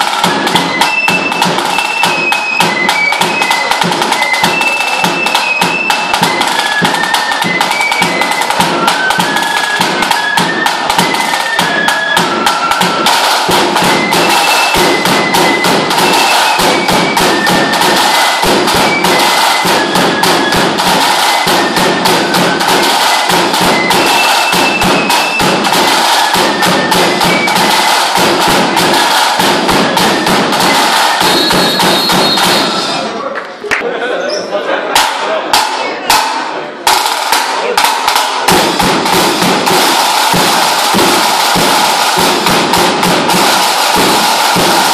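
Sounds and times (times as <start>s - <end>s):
drum beaten with canes: 0.0s - 33.2s, 34.9s - 44.9s
fife playing high tune: 0.0s - 33.2s, 36.2s - 44.9s.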